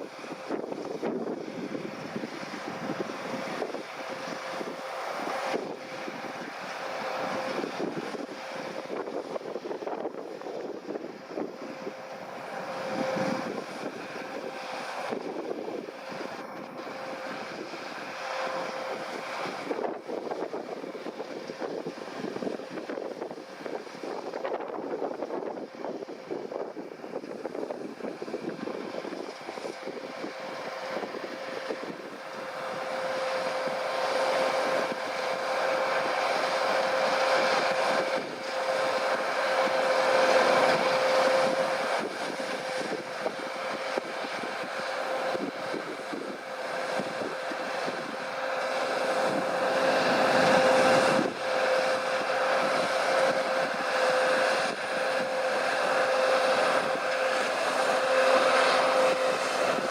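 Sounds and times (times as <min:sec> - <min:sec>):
combine harvester drone and whine: 0:00.0 - 0:59.9.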